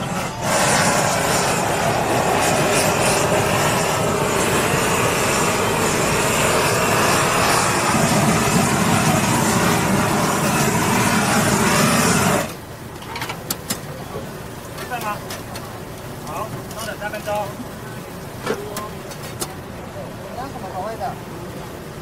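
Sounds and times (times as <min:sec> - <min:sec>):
gas blowtorch roaring: 0:00.0 - 0:22.0.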